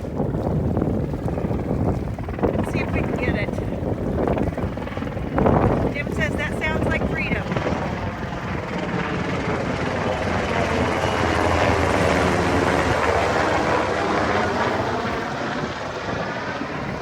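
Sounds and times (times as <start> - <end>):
helicopter flying past: 0.0 - 17.0.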